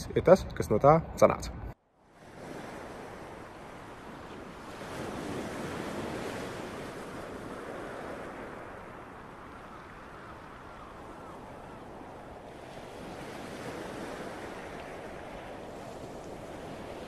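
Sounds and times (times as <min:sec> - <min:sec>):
sea waves washing in: 0:02.0 - 0:17.0.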